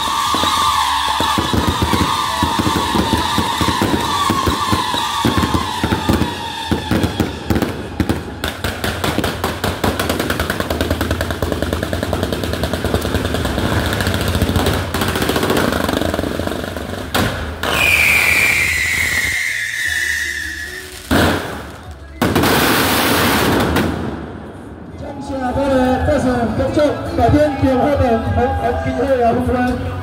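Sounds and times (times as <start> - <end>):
whistling rockets: 0.0 - 24.4
fireworks crackling and banging: 0.0 - 25.0.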